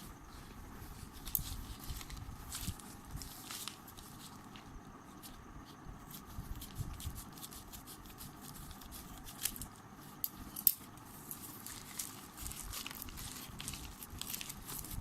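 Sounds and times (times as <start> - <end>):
scratching and rustling: 0.0 - 15.0.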